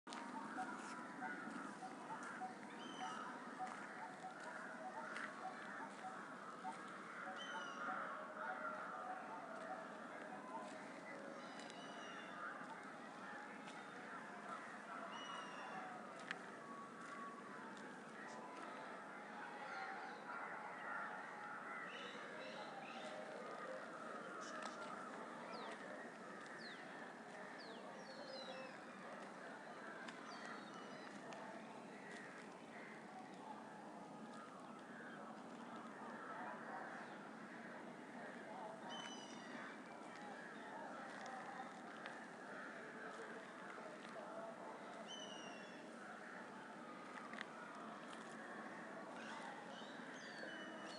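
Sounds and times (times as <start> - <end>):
outdoor background noise: 0.1 - 50.9.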